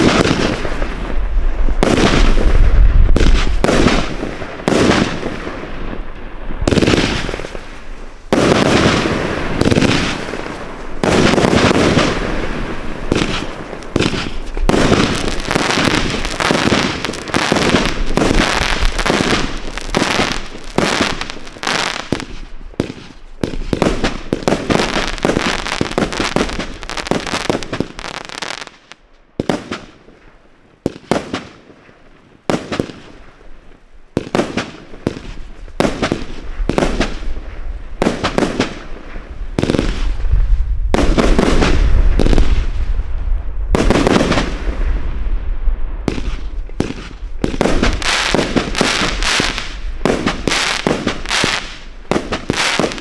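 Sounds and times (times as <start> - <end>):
fireworks bursting with sharp bangs: 0.0 - 53.0.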